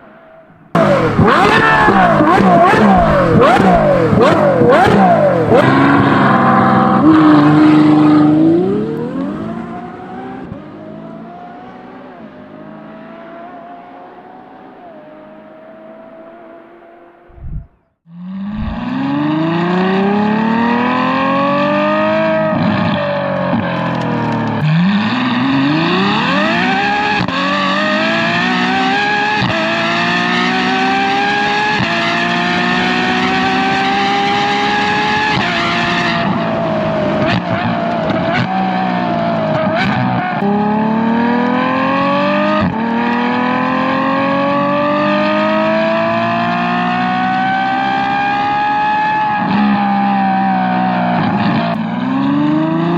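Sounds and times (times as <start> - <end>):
sports car engine accelerating: 0.0 - 52.9.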